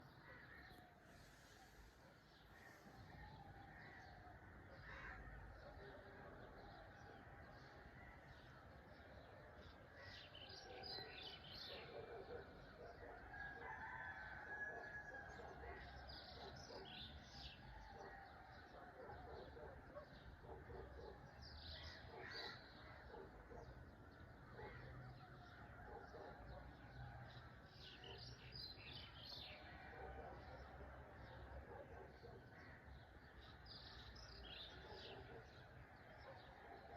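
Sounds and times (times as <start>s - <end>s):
faint birdsong: 0.0s - 36.9s.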